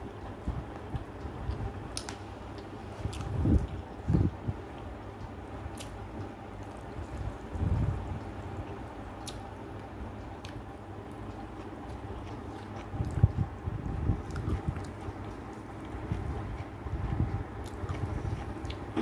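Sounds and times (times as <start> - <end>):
person chewing food: 0.8 - 19.0.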